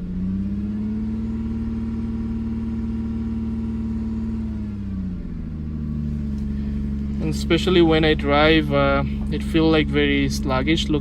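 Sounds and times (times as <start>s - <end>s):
car engine at raised revs: 0.0s - 11.0s
deep exhaust drone: 0.0s - 11.0s.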